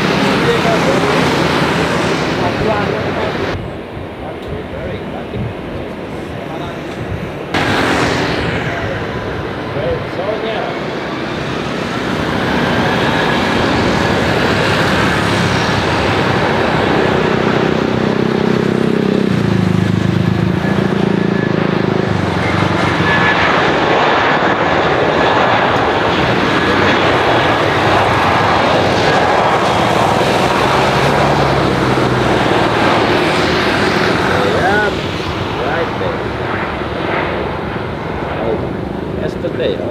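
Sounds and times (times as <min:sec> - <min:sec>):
jet airliner roar: 0:00.0 - 0:39.9.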